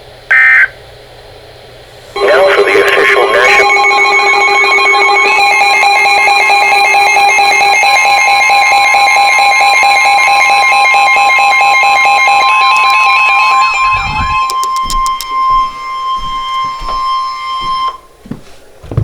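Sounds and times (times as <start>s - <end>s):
pulsing emergency alert tone: 2.2s - 18.1s.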